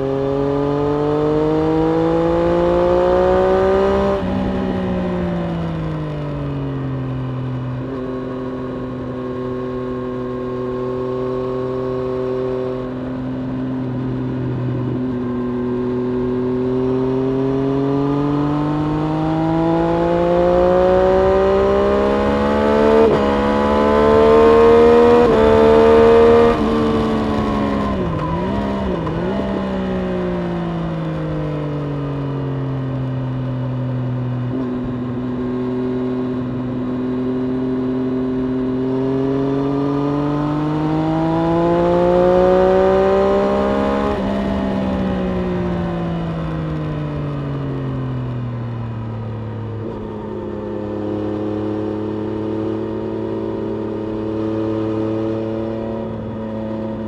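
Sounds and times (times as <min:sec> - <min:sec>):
motorcycle engine revving: 0:00.0 - 0:32.4, 0:33.4 - 0:57.0.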